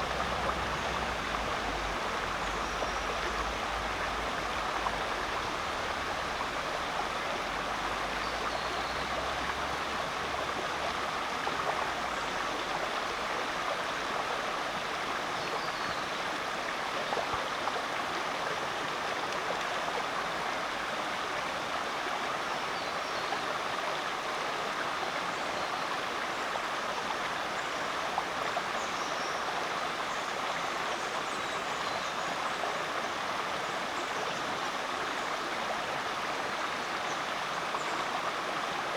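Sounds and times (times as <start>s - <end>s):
creek water running over rocks: 0.0s - 38.9s.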